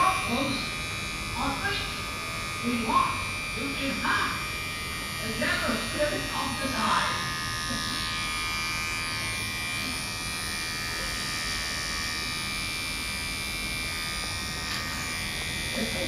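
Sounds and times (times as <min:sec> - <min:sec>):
electric pet clipper buzzing: 0:00.0 - 0:16.0.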